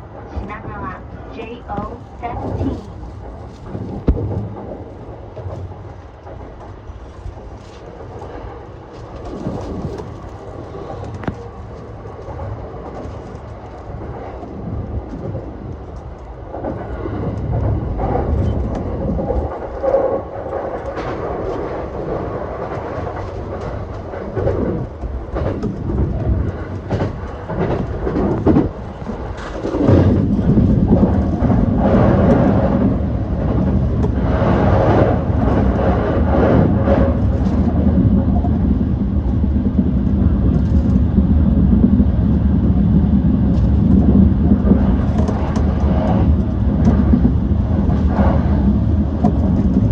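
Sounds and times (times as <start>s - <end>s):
train rumble from inside: 0.0s - 49.9s.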